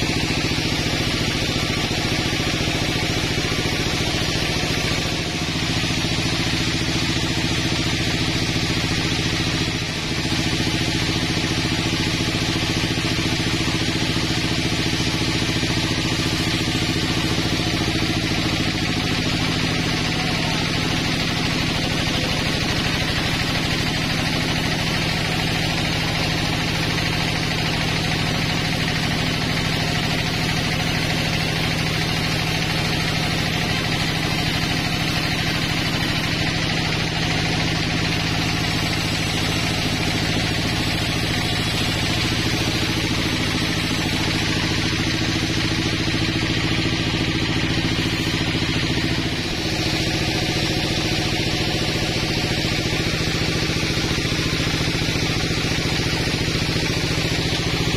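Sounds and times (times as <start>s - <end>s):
saw blade hissing through wood: 0.0s - 27.5s, 38.2s - 57.9s
band sawmill machine drone: 0.0s - 57.9s.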